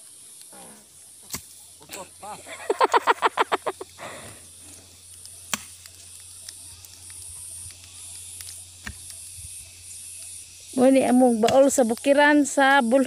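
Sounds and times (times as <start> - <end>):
high-pitched insect buzzing: 0.0 - 13.0.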